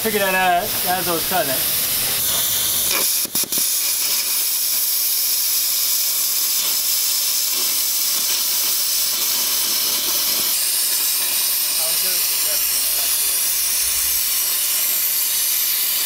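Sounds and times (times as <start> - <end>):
plasma cutter hissing: 0.0 - 16.0.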